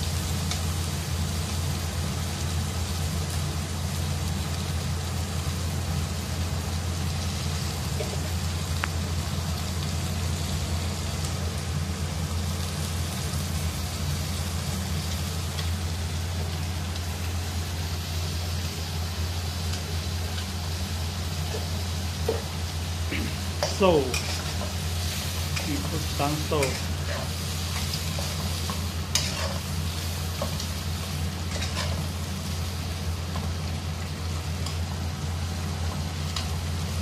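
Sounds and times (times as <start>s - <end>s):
food sizzling in a wok: 0.0s - 37.0s
gas flame rumble: 0.0s - 37.0s.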